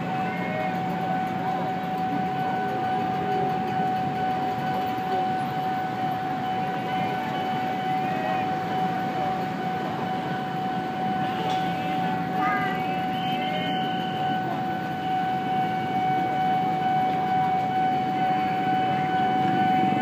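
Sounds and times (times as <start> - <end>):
passenger train rolling: 0.0 - 20.0
road traffic: 0.0 - 20.0
steady high tone: 0.0 - 20.0.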